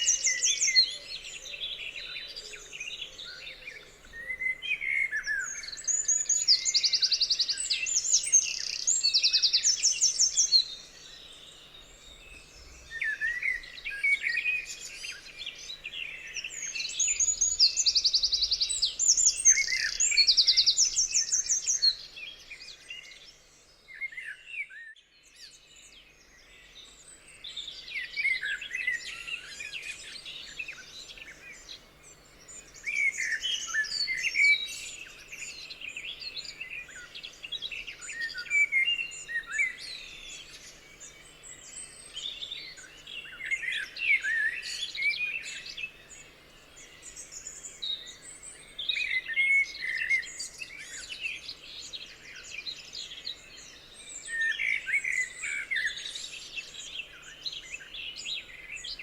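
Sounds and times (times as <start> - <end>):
songbirds chorus chirping: 0.0 - 59.0.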